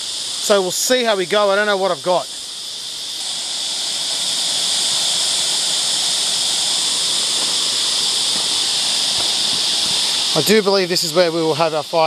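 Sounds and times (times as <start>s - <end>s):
cicada chorus buzzing: 0.0s - 12.0s.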